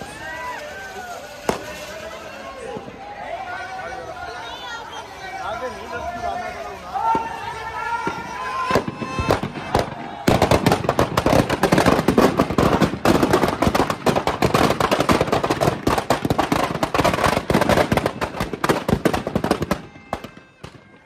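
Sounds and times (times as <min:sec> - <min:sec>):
firecrackers banging: 0:00.0 - 0:03.9, 0:05.6 - 0:21.0.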